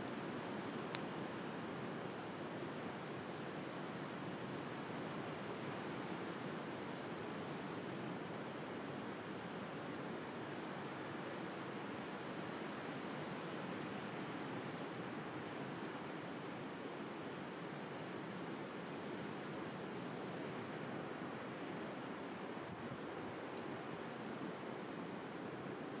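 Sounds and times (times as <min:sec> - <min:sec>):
faint wood fire crackles: 0:00.0 - 0:26.0.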